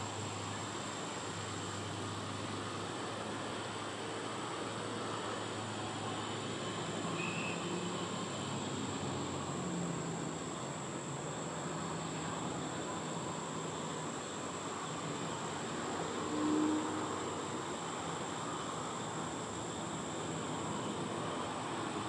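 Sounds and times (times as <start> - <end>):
high-pitched insect drone: 0.2 - 22.0.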